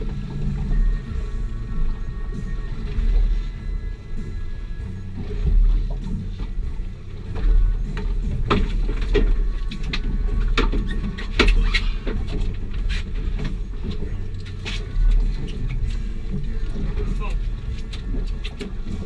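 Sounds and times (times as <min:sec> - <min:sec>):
boat low rumble: 0:00.0 - 0:19.0
clicks and knocks of rods and reels: 0:00.0 - 0:19.0.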